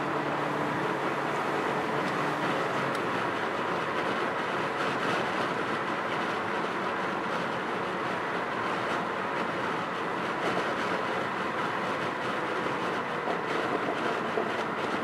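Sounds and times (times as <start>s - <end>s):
car engine cruising: 0.0s - 15.0s.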